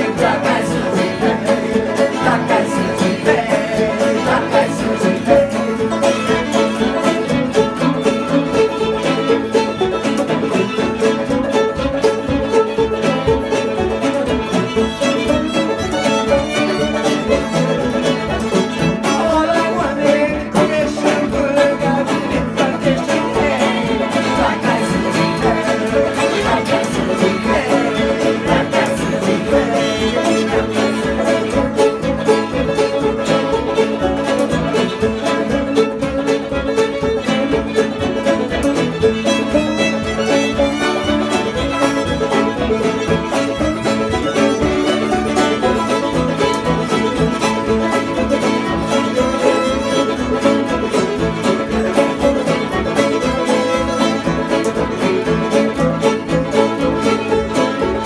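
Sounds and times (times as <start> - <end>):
acoustic guitar: 0.0 - 58.0
banjo: 0.0 - 58.0
fiddle melody: 0.0 - 58.0.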